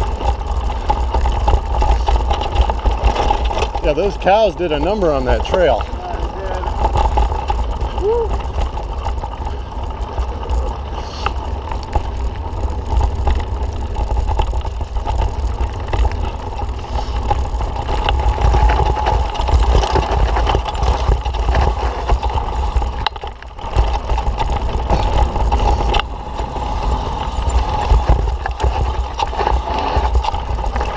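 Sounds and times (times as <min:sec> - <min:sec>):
mountain bike rattling on trail: 0:00.0 - 0:30.9
wind rumble on microphone: 0:06.0 - 0:30.9.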